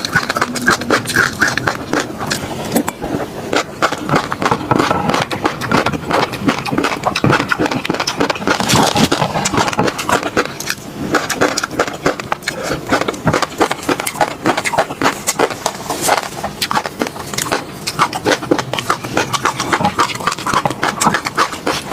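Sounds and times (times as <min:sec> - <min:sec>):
wet chewing with mouth clicks: 0:00.0 - 0:21.9.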